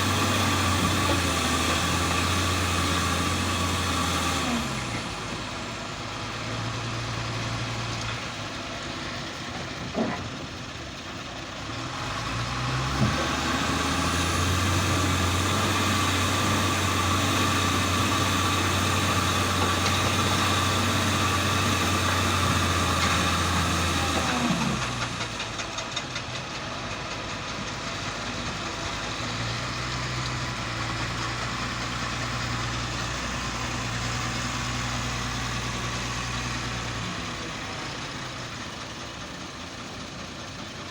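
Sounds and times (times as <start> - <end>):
heavy engine idling and revving: 0.0 - 40.9.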